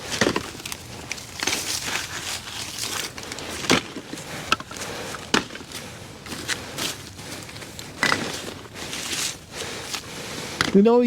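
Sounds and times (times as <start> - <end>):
scraping and crackling of dry debris: 0.0 - 11.0.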